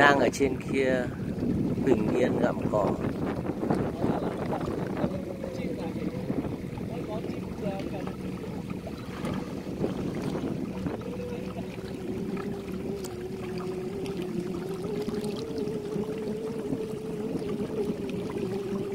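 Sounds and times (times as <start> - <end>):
motorboat engine humming: 0.0 - 18.9
water rushing: 0.0 - 18.9
wind: 0.0 - 18.9.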